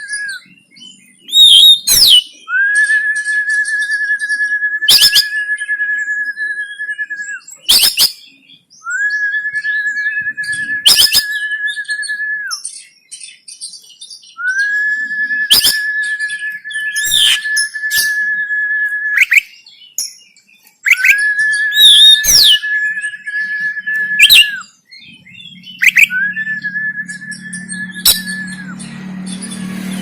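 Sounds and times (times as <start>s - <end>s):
bird whistling and chirping: 0.0s - 30.0s.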